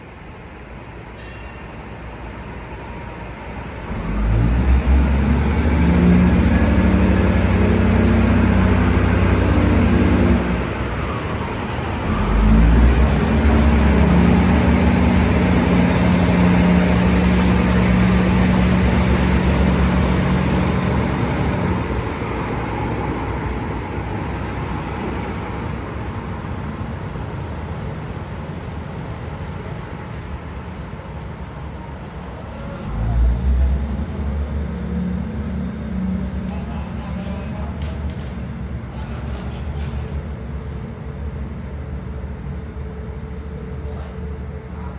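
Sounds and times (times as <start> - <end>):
diesel train engines accelerating: 0.0 - 44.9.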